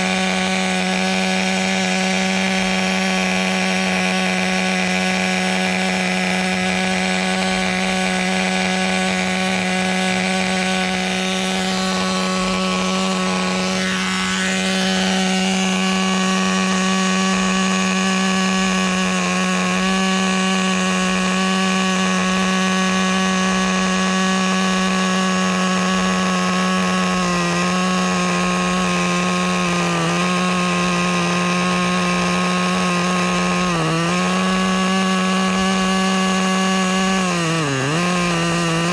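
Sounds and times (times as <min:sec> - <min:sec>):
model car engine running high pitch: 0:00.0 - 0:38.9.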